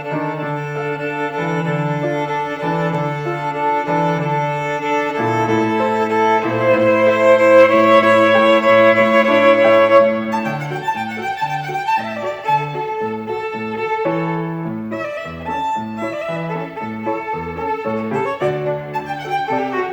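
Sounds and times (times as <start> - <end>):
violin melody: 0.0 - 19.9.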